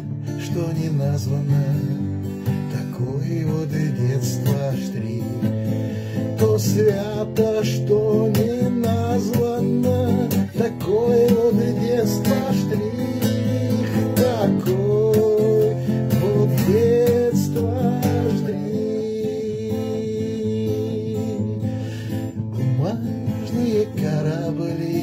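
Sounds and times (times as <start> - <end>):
acoustic guitar strumming: 0.0 - 25.0
man singing: 0.0 - 25.0.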